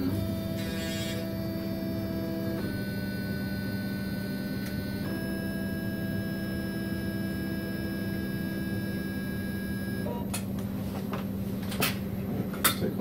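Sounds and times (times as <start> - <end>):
printer motors and fan humming: 0.0 - 13.0.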